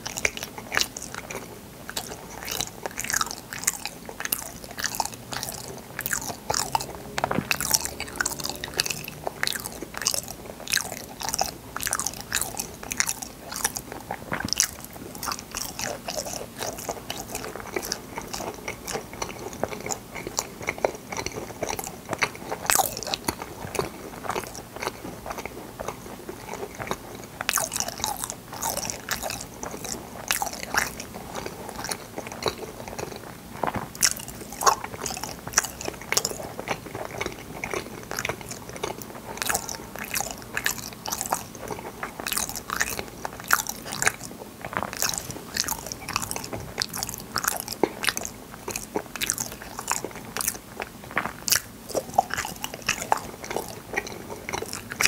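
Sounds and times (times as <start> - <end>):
person chewing firm jelly: 0.0 - 55.0.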